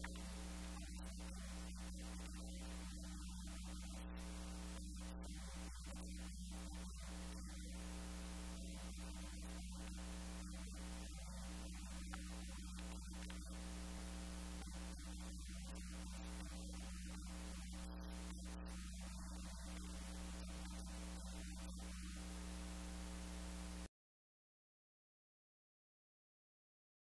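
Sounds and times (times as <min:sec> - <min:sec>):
constant hiss: 0:00.0 - 0:23.9
electrical mains hum: 0:00.0 - 0:23.9.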